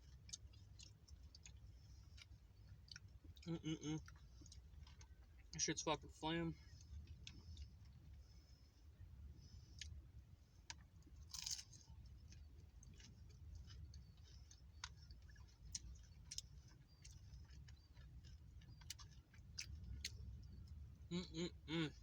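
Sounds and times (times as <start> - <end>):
chewing crunchy food: 0.0 - 21.2
low steady rumble: 0.0 - 22.0.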